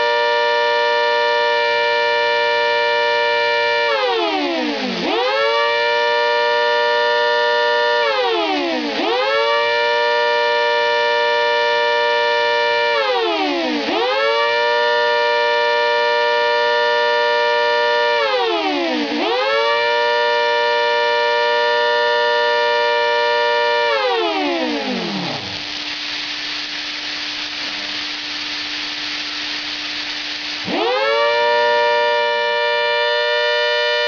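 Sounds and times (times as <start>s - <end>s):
siren steady tone with pitch dips: 0.0s - 27.9s, 30.6s - 34.0s.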